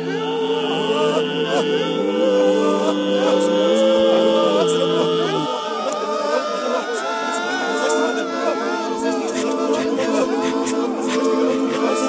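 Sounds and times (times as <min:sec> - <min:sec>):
high voice singing wavering phrases: 0:00.0 - 0:12.0
low voices holding a chord: 0:00.0 - 0:12.0.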